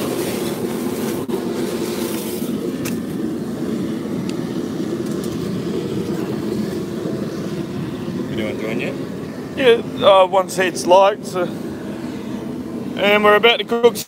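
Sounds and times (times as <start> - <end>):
gas burner roaring: 0.0 - 14.0.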